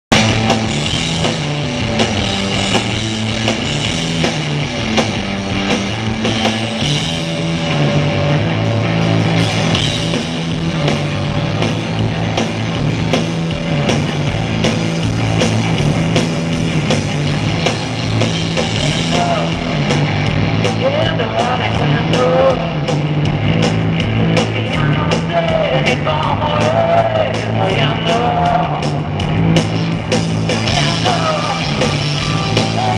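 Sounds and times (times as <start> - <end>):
bass line: 0.0 - 32.9
rock band playing live: 0.1 - 32.9.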